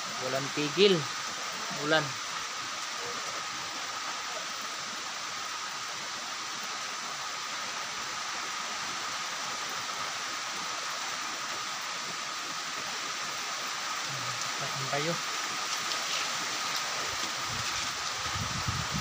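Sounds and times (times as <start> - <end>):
heavy rain on foliage: 0.0 - 19.0.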